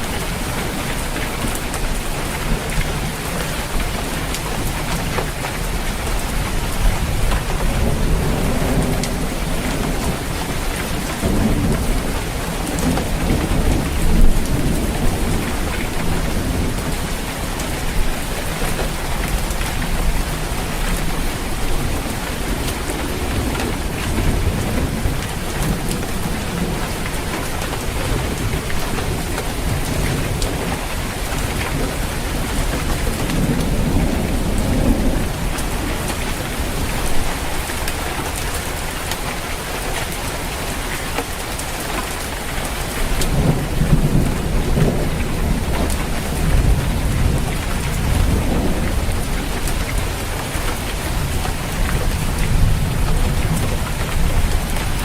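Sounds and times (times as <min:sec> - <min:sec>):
rain on a roof: 0:00.0 - 0:55.0
thunder rumbling: 0:00.0 - 0:55.0.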